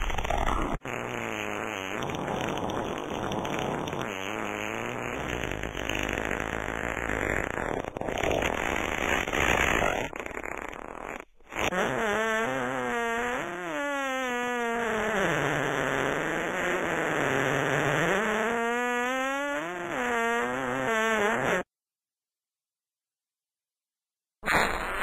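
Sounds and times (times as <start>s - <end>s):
rasping farts: 0.0s - 21.7s, 24.4s - 25.0s.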